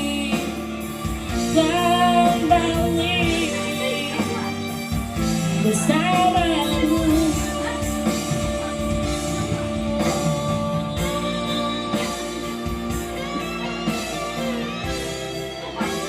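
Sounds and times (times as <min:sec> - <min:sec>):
guitar-led instrumental band music: 0:00.0 - 0:16.0.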